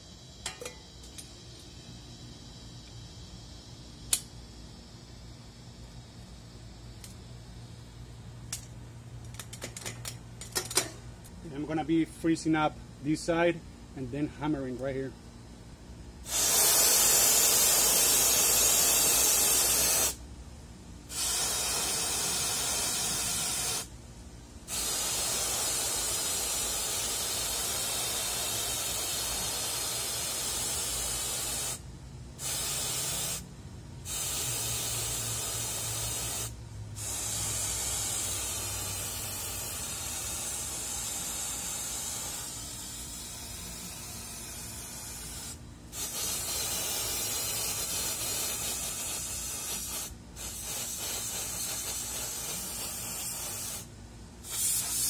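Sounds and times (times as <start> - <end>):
compressed air spraying hiss: 0.0 - 8.7, 16.2 - 20.2, 21.1 - 24.0, 24.6 - 55.0.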